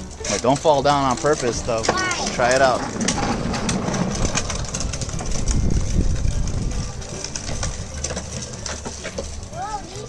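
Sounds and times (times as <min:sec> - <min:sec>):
tricycle wheels rumbling on concrete: 0:00.0 - 0:10.0.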